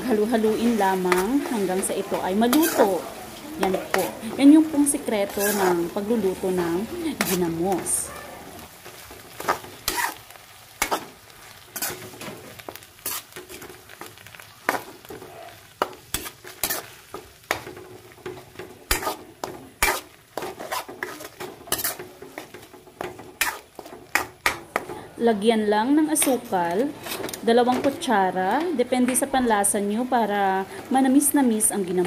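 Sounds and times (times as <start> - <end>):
frying sizzle: 0.0 - 32.0
metal spoon scraping a wok: 0.2 - 14.1, 14.7 - 25.0, 26.1 - 28.0.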